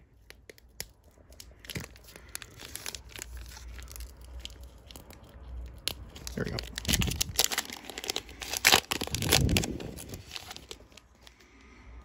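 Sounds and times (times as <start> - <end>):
foil wrapper crinkling and tearing: 0.2 - 11.4.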